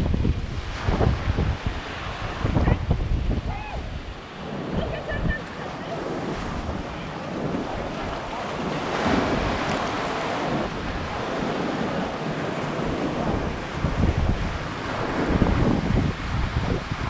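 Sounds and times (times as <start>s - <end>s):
waves breaking on rocks: 0.0s - 17.0s
wind rumble on microphone: 0.0s - 17.0s.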